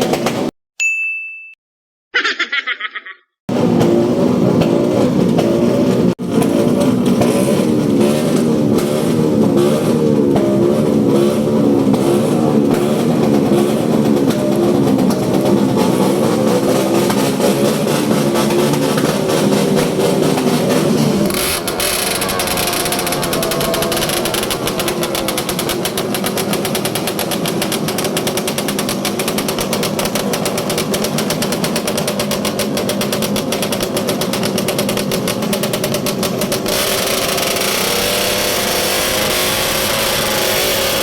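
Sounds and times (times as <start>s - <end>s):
motorcycle engine revving: 3.5s - 41.0s.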